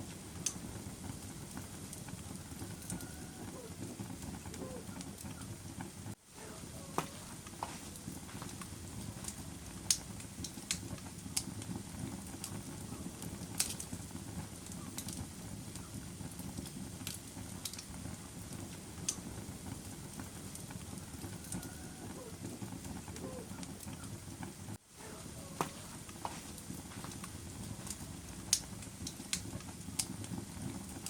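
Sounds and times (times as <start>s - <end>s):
fire crackling and popping: 0.0s - 31.0s
flames rumbling: 0.0s - 31.0s.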